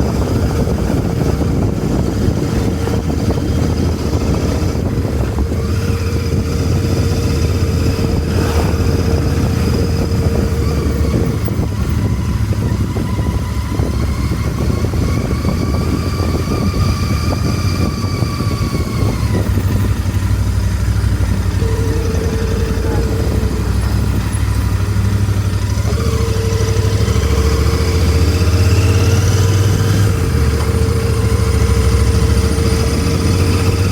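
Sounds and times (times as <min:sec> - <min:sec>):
engine whine: 0:00.0 - 0:33.9
motorcycle engine rumble: 0:00.0 - 0:33.9.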